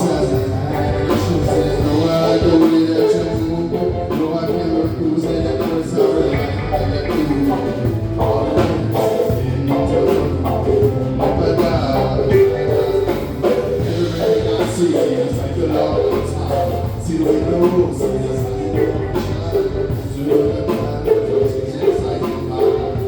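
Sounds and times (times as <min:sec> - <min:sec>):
bass guitar: 0:00.0 - 0:23.0
drum kit: 0:00.0 - 0:23.0
electric guitar: 0:00.0 - 0:23.0
person singing: 0:00.0 - 0:23.0.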